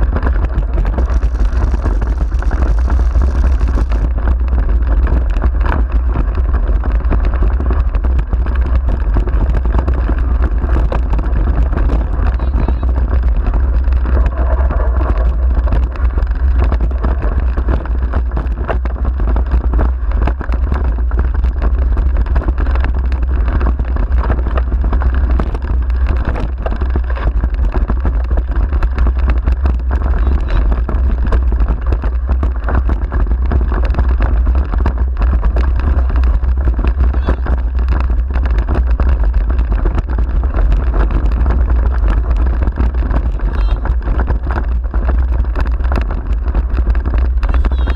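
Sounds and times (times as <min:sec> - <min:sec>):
low rumble of wind and vibration: 0:00.0 - 0:47.9
wheels knocking and rattling: 0:00.0 - 0:47.9.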